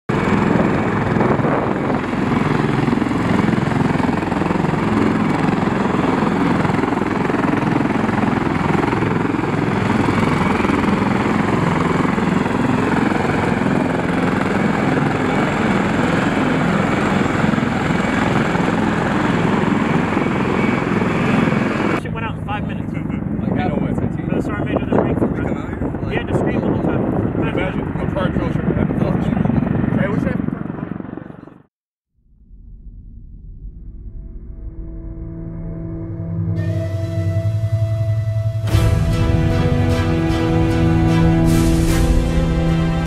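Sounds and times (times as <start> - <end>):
helicopter rotor and engine: 0.1 - 31.7, 36.6 - 43.0.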